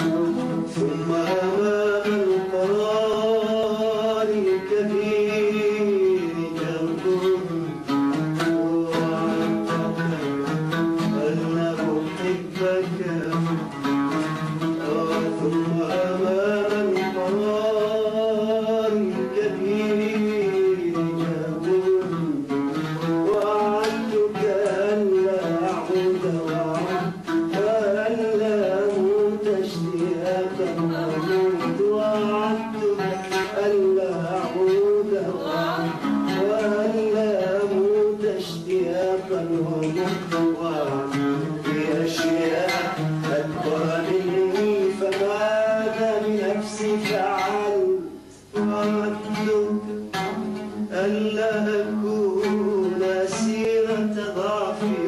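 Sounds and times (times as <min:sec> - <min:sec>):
man singing slow melody: 0:00.0 - 0:55.0
oud playing: 0:00.0 - 0:55.0.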